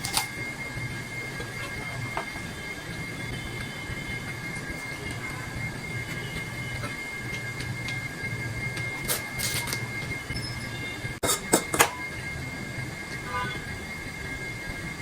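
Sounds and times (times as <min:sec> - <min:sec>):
high whine: 0:00.0 - 0:15.0.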